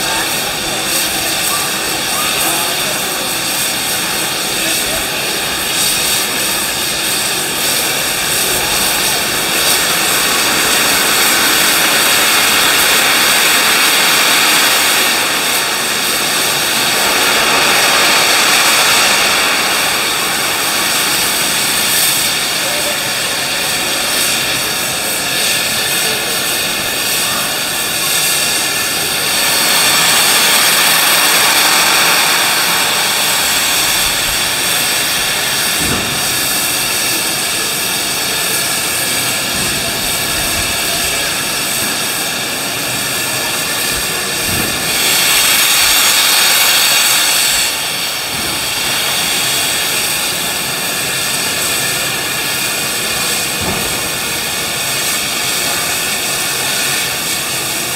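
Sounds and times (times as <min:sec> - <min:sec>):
high-pitched whine: 0:00.0 - 0:57.9
steam locomotive hissing: 0:00.0 - 0:57.9.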